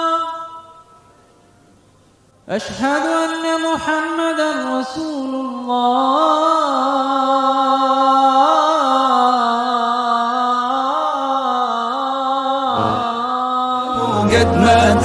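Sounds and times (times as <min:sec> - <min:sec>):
person singing melisma: 0:02.8 - 0:15.0.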